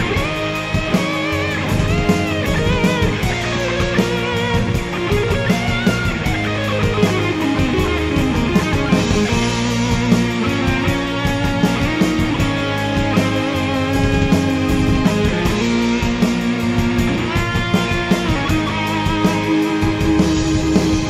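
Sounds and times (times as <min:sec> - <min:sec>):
bass guitar: 0:00.0 - 0:21.0
drums: 0:00.0 - 0:21.0
keyboards: 0:00.0 - 0:21.0
lead electric guitar melody: 0:00.0 - 0:21.0.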